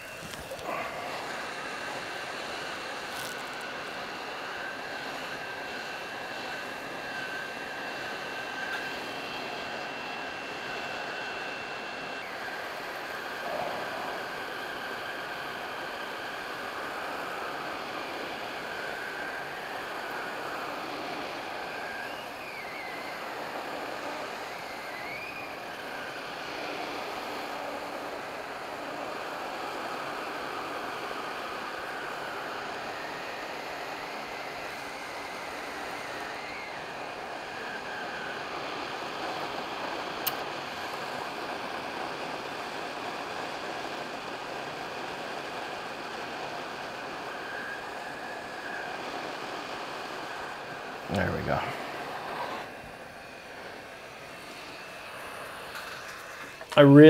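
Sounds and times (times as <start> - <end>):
hot air station hissing: 0.0 - 57.0.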